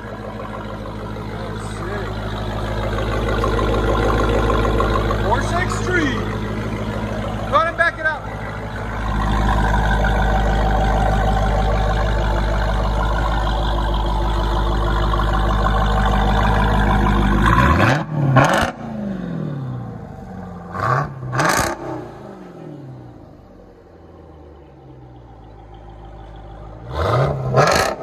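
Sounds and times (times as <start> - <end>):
car engine revving: 0.0 - 24.5, 25.2 - 28.0.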